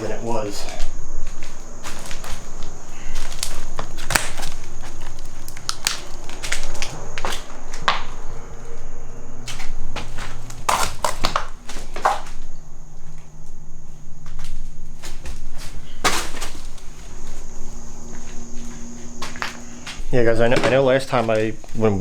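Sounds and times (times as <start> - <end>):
footsteps crunching over debris: 0.0 - 22.0.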